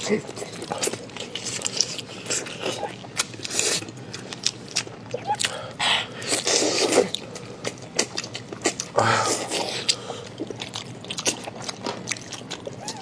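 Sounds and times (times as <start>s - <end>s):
biting and chewing food: 0.0s - 13.0s.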